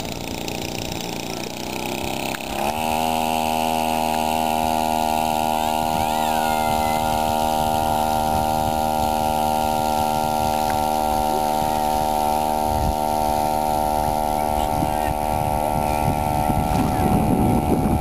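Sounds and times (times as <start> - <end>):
outboard boat motor running: 0.0 - 18.0.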